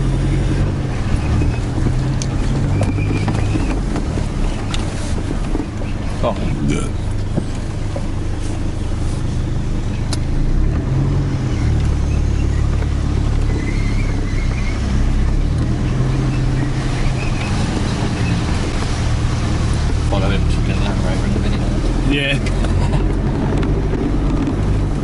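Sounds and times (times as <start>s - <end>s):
pickup engine droning: 0.0s - 25.0s.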